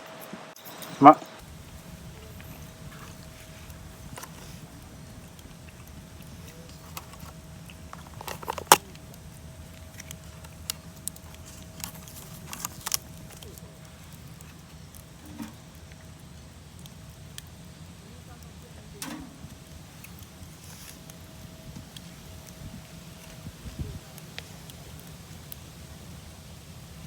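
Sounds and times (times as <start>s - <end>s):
low background rumble: 1.4s - 27.0s.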